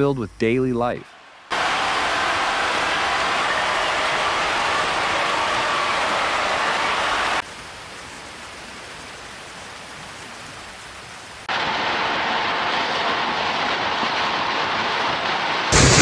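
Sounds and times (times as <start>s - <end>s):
rushing water: 1.1s - 16.0s.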